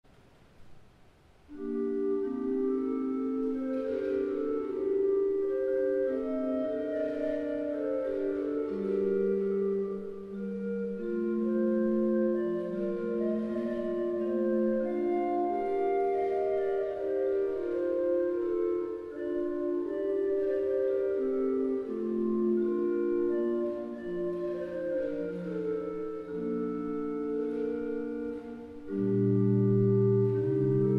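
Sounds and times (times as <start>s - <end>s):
pipe organ playing slow air: 1.5s - 30.9s.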